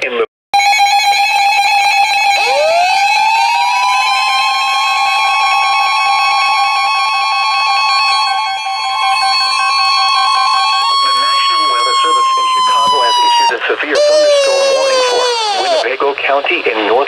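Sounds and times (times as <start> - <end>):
loud steady alert tone: 0.6 - 15.5
rising alert tone: 2.0 - 15.6.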